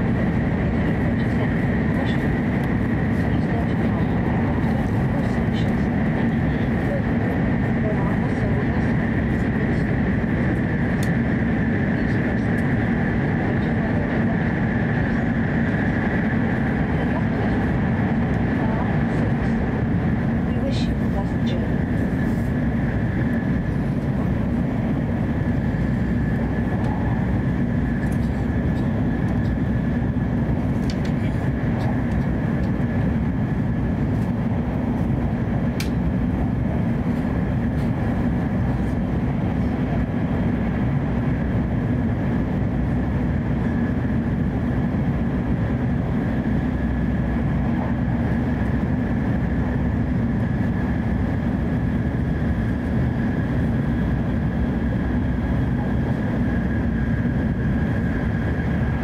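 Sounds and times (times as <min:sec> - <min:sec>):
faint steady whine: 0:00.0 - 0:59.0
train cabin rumble: 0:00.0 - 0:59.0.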